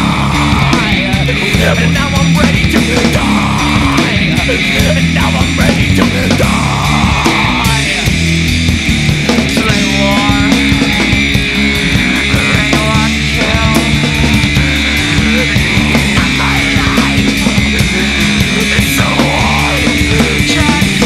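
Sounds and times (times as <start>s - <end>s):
loud rock song: 0.0s - 21.0s.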